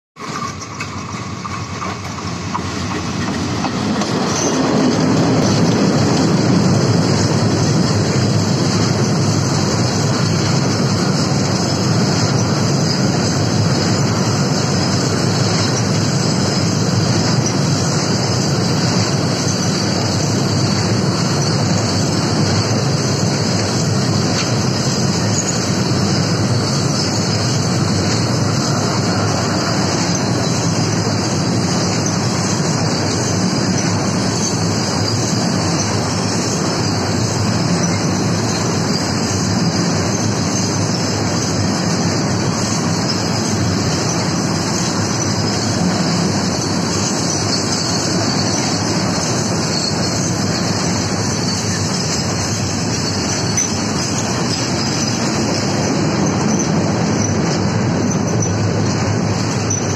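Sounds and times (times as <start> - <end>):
freight train passing: 0.2 - 59.9.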